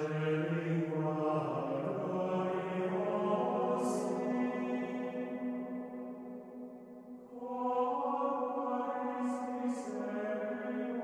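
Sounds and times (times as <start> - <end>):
slow chant-like singing: 0.0 - 11.0.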